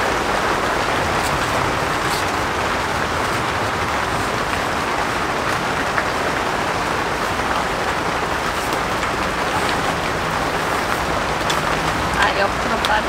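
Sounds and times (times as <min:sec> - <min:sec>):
rain on canvas tent: 0:00.0 - 0:13.0.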